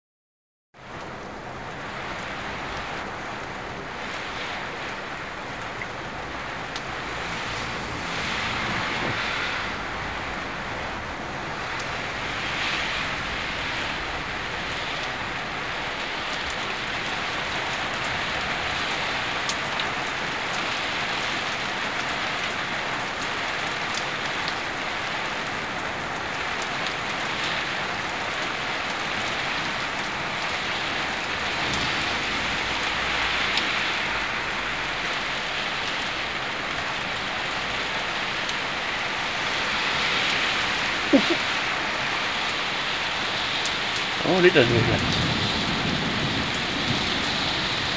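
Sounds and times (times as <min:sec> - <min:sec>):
rain falling: 0:00.8 - 0:47.9.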